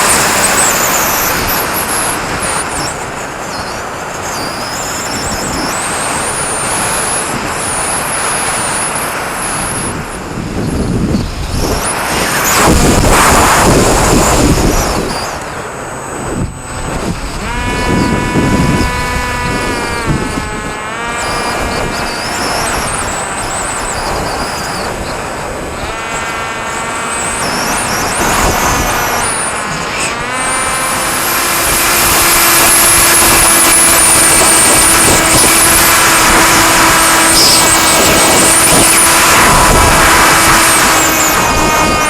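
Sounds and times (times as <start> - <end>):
model airplane motor and propeller: 0.0 - 42.0
loud rushing noise: 4.9 - 42.0.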